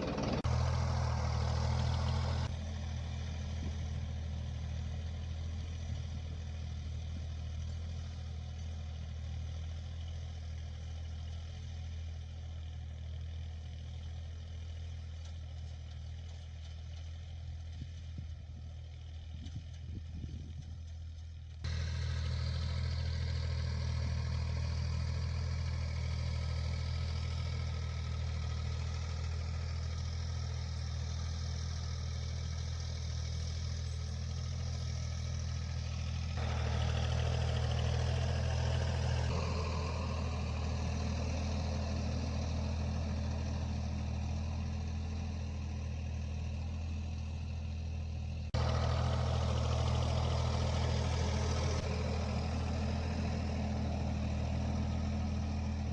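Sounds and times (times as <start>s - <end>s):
tractor engine droning: 0.0s - 55.9s.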